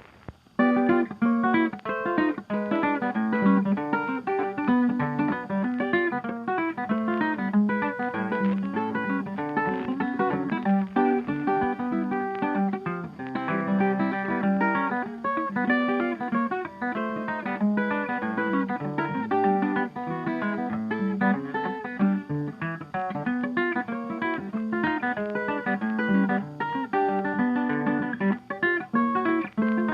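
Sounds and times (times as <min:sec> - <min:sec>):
flamenco-like acoustic guitar: 0:00.0 - 0:29.9.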